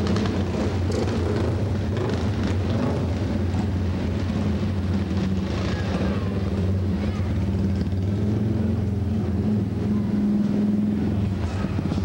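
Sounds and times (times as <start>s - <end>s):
constant hum: 0.0s - 12.0s
motorcycle engines rumbling: 0.0s - 12.0s.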